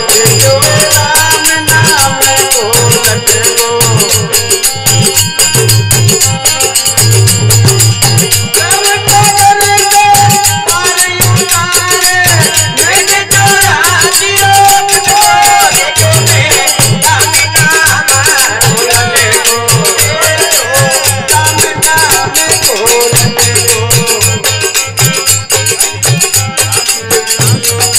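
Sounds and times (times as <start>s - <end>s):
hand drum beat: 0.0s - 27.9s
harmonium melody: 0.0s - 27.9s.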